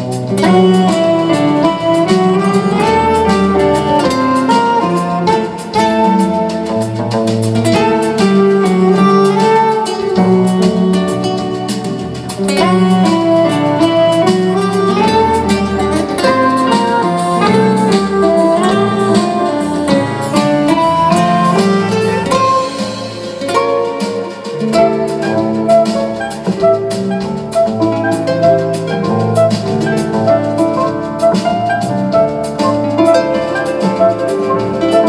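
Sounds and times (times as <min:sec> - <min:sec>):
double bass: 0:00.0 - 0:35.0
drum kit: 0:00.0 - 0:35.0
electric guitar: 0:00.0 - 0:35.0
saxophone: 0:00.0 - 0:35.0.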